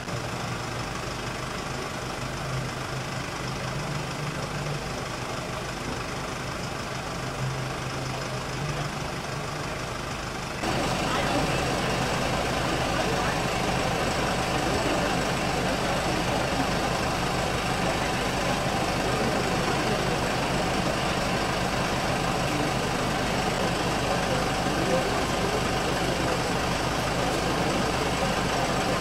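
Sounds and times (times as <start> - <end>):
ambulance engine idling: 0.0 - 29.0.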